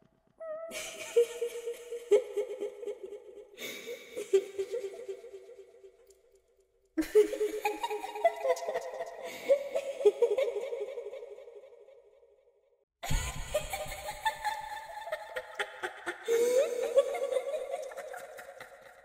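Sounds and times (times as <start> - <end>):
eerie girl giggling: 0.4 - 5.7, 7.0 - 11.4, 13.0 - 19.0.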